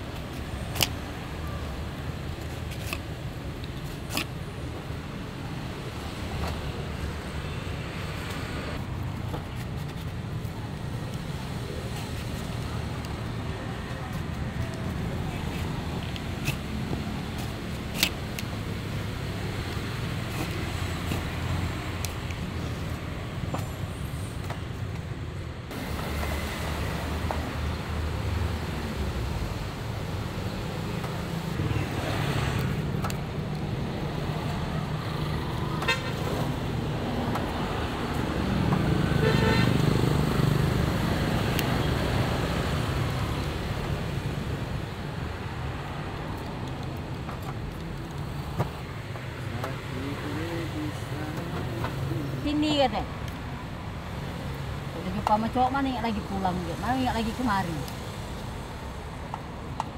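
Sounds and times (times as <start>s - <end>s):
road traffic rumbling: 0.0s - 59.9s.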